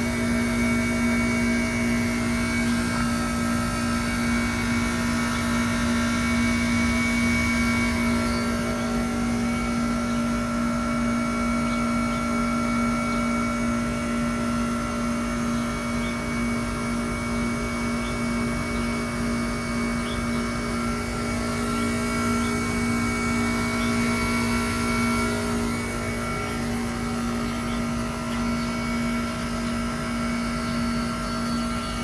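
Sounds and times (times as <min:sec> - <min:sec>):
heat pump mechanical drone: 0:00.0 - 0:32.0.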